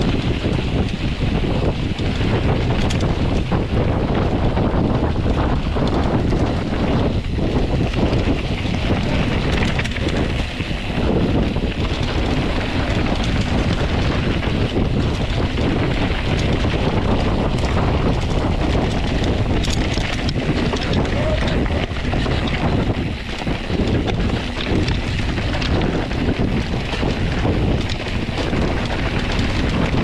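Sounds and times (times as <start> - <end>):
mountain bike clattering on rocks: 0.0 - 30.0
wind buffeting microphone: 0.0 - 30.0.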